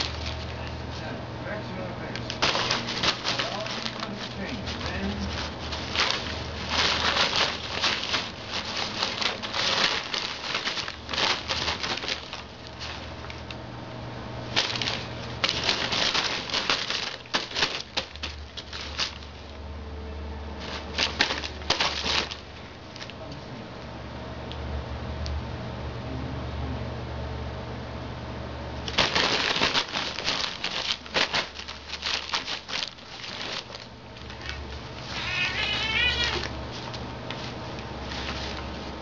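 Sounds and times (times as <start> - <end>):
cats scuffling and rustling: 0.0 - 13.6, 14.4 - 19.6, 20.5 - 23.2, 28.8 - 39.0
steady low hum: 0.0 - 39.0.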